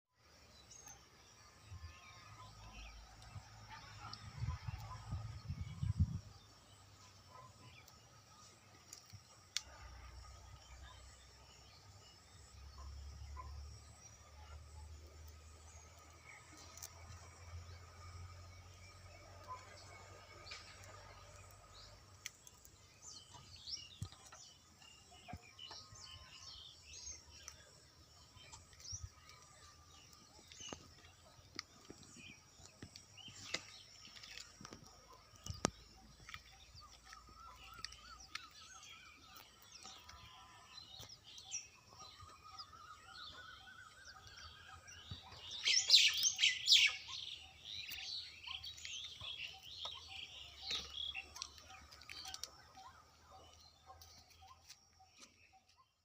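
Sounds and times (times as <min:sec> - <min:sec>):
small birds chirping: 0:00.1 - 0:56.0.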